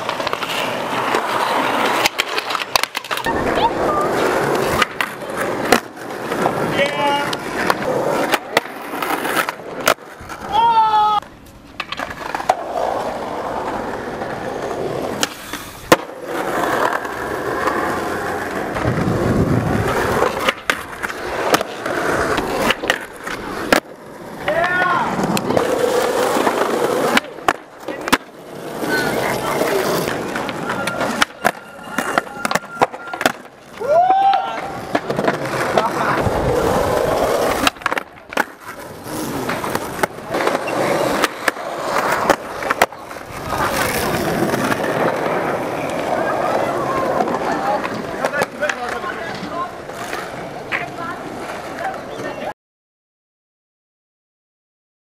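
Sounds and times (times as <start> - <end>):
skateboard clacking on ground: 0.0 - 52.5
skateboard wheels rolling on pavement: 0.0 - 52.5.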